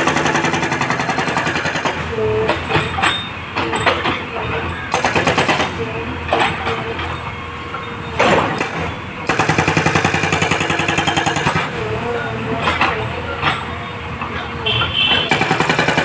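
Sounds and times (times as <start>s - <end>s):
hydraulic breaker hammering: 0.0s - 7.2s, 8.1s - 16.0s.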